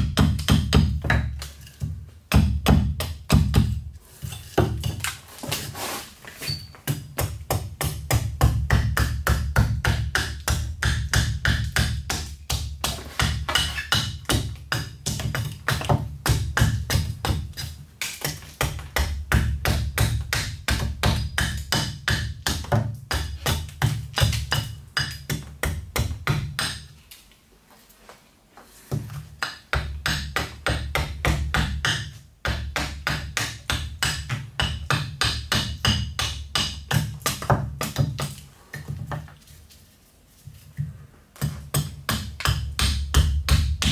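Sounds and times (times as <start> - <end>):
axe chopping wood: 0.0 - 3.8, 6.8 - 26.9, 28.9 - 38.9, 41.4 - 43.9.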